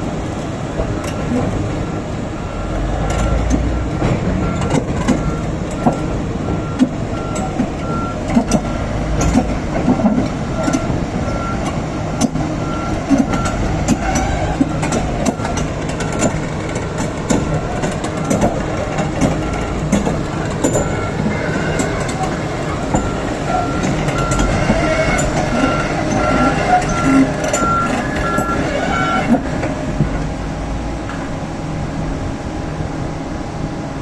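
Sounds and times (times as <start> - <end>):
excavator engine drone: 0.0 - 34.0
reversing alarm beeping: 1.1 - 29.5.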